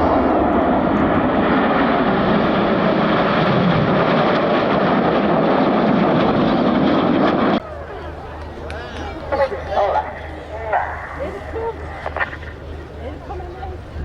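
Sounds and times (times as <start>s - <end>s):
jets flying by: 0.0s - 8.3s, 9.1s - 14.0s.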